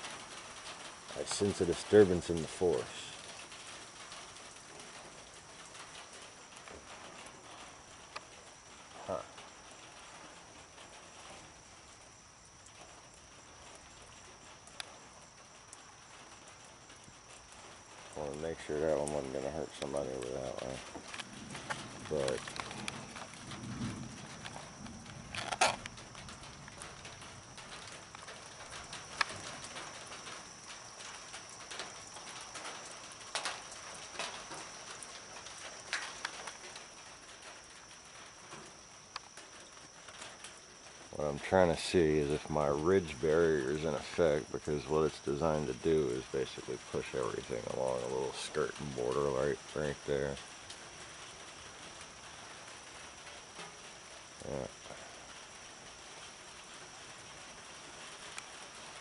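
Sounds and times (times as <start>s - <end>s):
crickets trilling: 0.0s - 59.0s
night insects droning: 0.0s - 59.0s.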